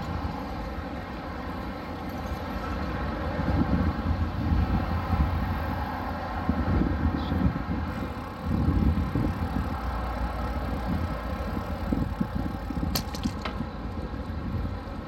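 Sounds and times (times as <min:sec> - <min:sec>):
wind buffeting microphone: 0:02.0 - 0:15.0.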